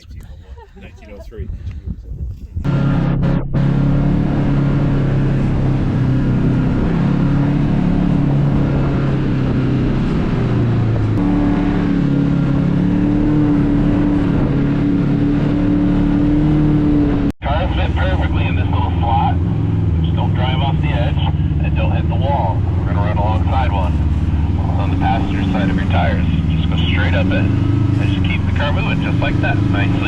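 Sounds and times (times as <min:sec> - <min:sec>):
vehicle engine running: 0:02.6 - 0:30.0.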